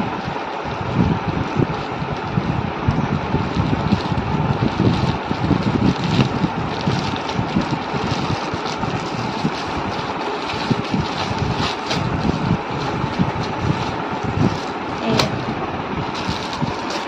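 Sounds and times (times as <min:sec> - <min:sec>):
plastic packaging rustling: 0:00.0 - 0:02.6, 0:03.2 - 0:17.0.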